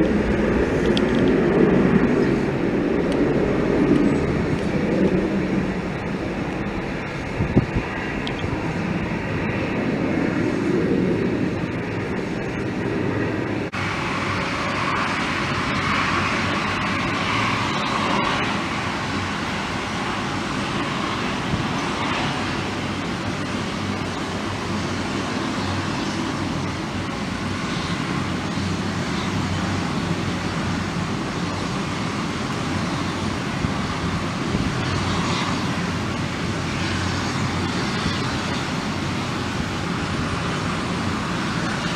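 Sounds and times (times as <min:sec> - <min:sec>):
jet engines running: 0:00.0 - 0:41.9.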